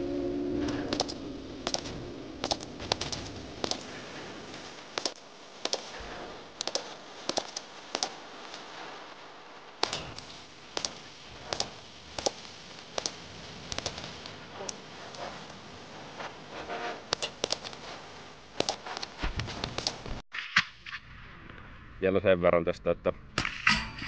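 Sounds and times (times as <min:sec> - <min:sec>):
outdoor background hiss: 0:00.0 - 0:20.2.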